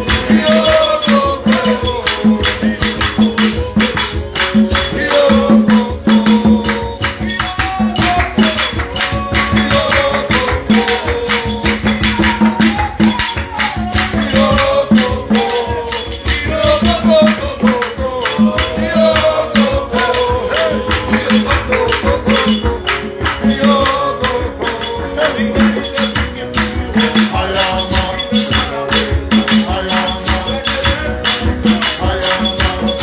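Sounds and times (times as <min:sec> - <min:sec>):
upbeat worship music: 0:00.0 - 0:33.0.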